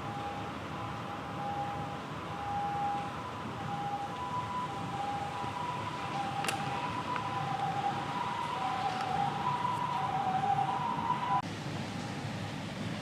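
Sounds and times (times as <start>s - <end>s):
two-tone ambulance siren: 0.0s - 12.6s.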